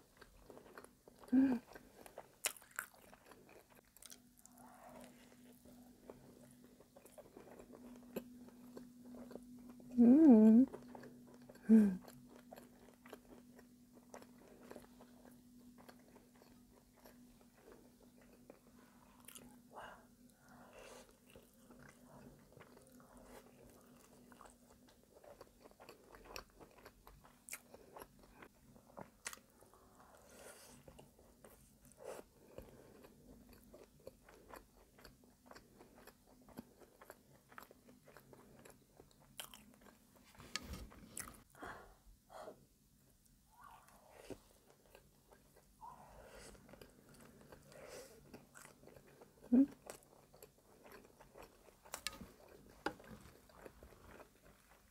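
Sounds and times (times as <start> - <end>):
person chewing food: 0.0 - 41.8, 43.2 - 54.9.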